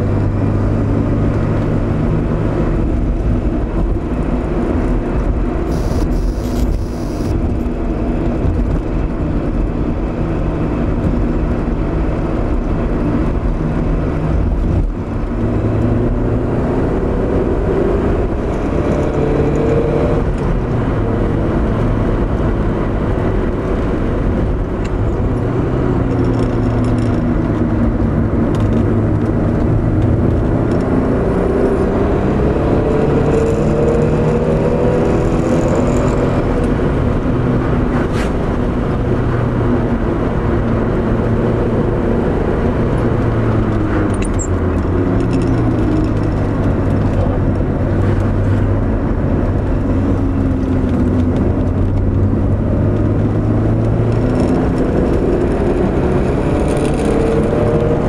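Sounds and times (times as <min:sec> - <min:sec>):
car engine revving: 0:00.0 - 0:10.0, 0:13.2 - 0:58.0
road noise: 0:00.0 - 0:58.0.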